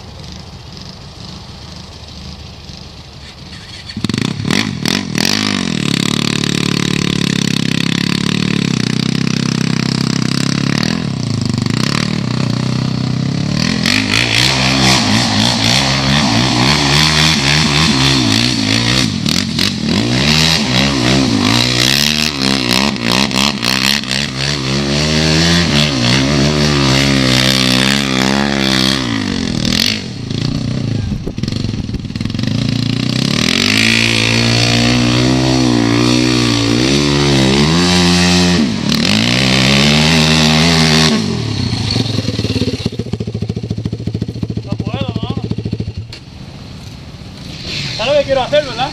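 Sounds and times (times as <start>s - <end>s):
atv engine revving: 0.0s - 48.9s.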